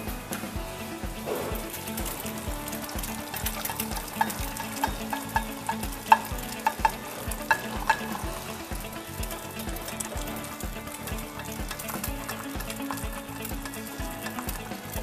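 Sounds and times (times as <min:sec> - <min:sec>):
eggs sizzling in oil: 0:00.0 - 0:15.0.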